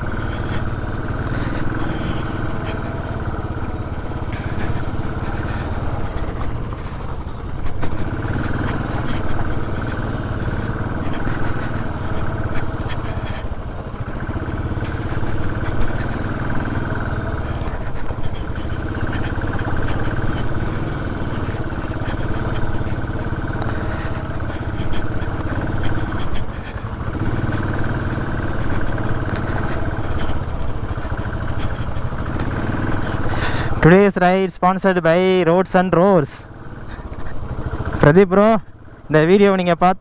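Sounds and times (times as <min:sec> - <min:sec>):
motorcycle engine running off-road: 0:00.0 - 0:40.0.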